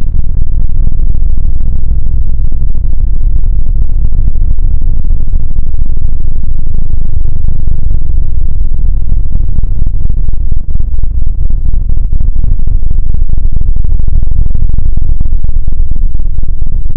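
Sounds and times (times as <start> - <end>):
crackling distorted low rumble: 0.0 - 16.9.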